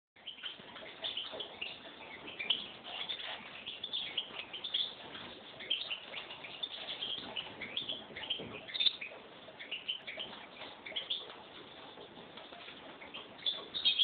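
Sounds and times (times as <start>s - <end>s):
finch chirping: 0.2s - 14.0s.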